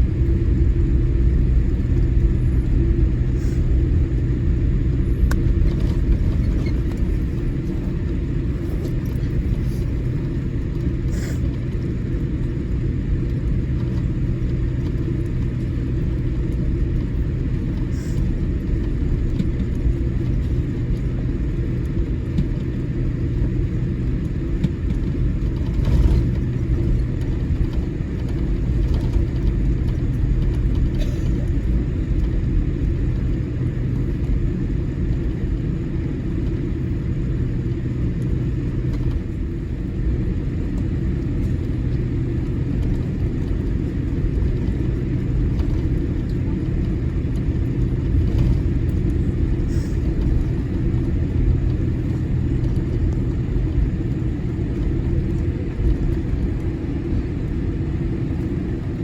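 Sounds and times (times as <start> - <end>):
airplane cabin rumble: 0.0 - 59.0
low hum: 0.0 - 59.0.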